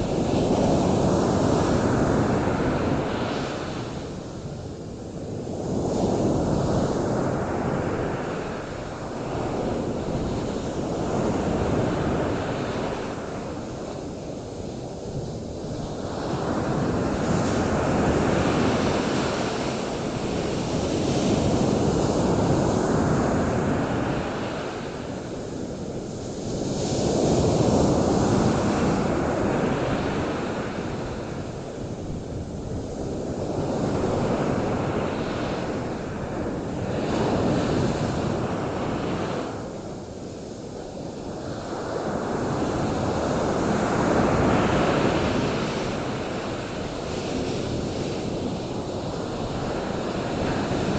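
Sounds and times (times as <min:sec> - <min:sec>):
waves washing onto beach: 0:00.0 - 0:50.9.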